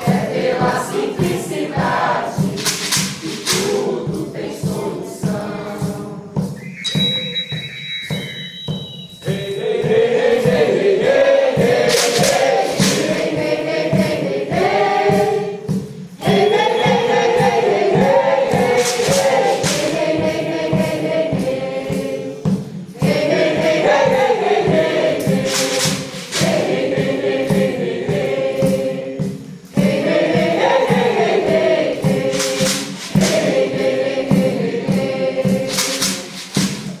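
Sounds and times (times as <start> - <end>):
choir singing: 0.0 - 37.0
steady beat: 0.0 - 37.0.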